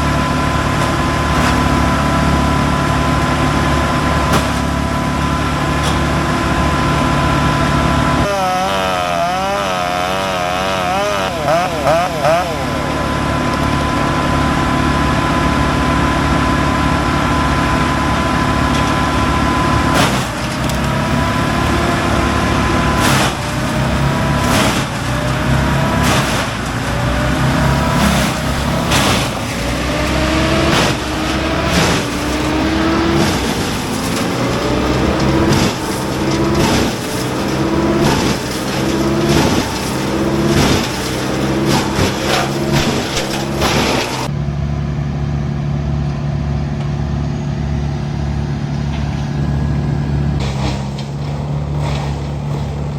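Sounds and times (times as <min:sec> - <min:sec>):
wood cracking in chipper: 0:00.0 - 0:44.4, 0:48.2 - 0:52.9
wood chipper engine running: 0:00.0 - 0:52.9.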